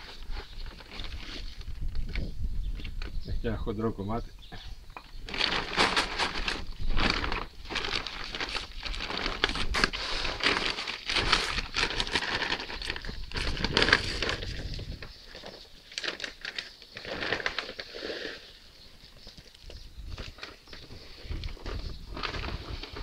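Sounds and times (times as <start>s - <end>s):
plastic sack crinkling: 0.0s - 3.1s, 5.0s - 23.0s.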